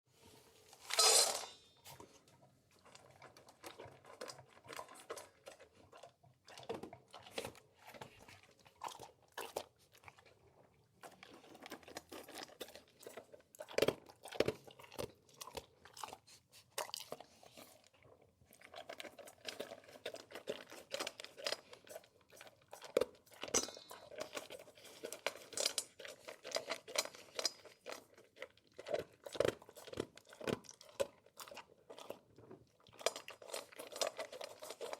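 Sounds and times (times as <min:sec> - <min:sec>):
dog chewing food: 0:01.9 - 0:34.9.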